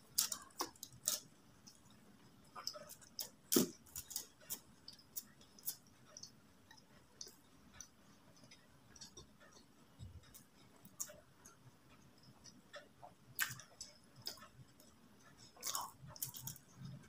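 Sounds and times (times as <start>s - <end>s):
chewing with wet clicks: 0.0s - 17.0s.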